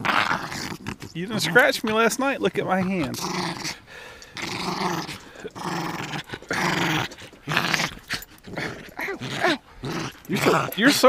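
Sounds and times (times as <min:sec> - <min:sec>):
small dog growling: 0:00.0 - 0:11.0.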